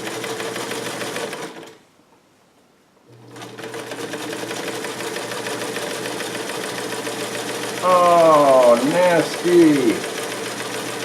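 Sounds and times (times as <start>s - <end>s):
sewing machine stitching: 0.0s - 1.8s, 3.2s - 11.0s.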